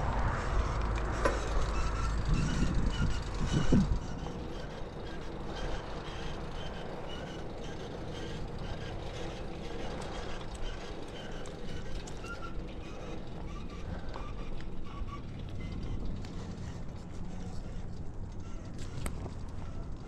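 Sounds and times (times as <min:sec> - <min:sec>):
bicycle tyres rolling rumble: 0:00.0 - 0:20.0
wind: 0:00.0 - 0:20.0
bicycle chain chirping: 0:01.4 - 0:20.0.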